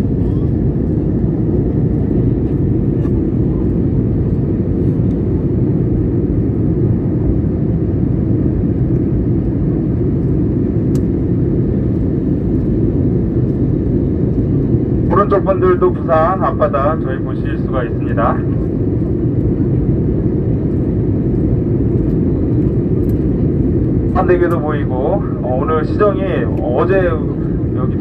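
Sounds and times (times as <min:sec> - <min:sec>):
jet engine and airflow rush: 0:00.0 - 0:28.0.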